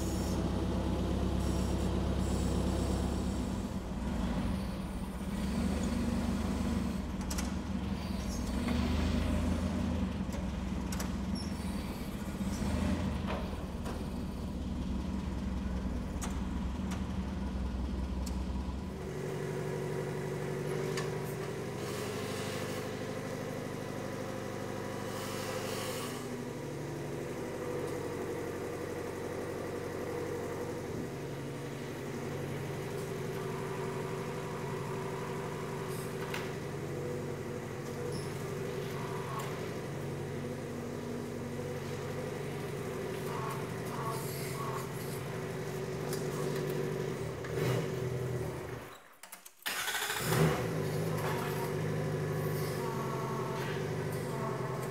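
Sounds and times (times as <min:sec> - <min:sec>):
machine engine running: 0:00.0 - 0:49.0, 0:49.7 - 0:54.9.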